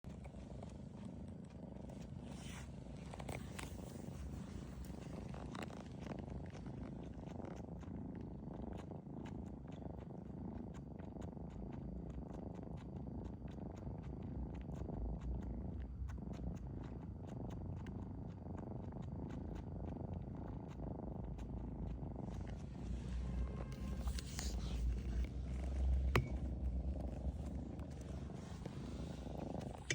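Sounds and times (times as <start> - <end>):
mouth clicks chewing carpet: 0.1 - 29.9
pet snoring: 0.2 - 29.9.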